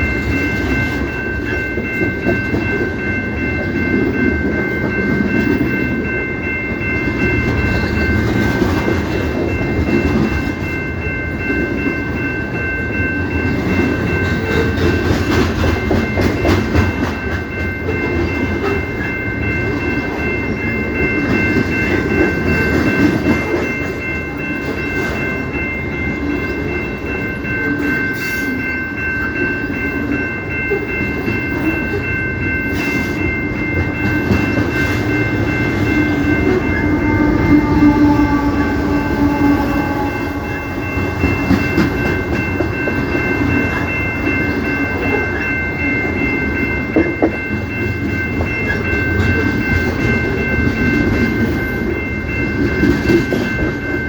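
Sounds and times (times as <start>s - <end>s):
high ringing tones: 0.0s - 54.0s
train wheels rumbling on rails: 0.0s - 54.0s.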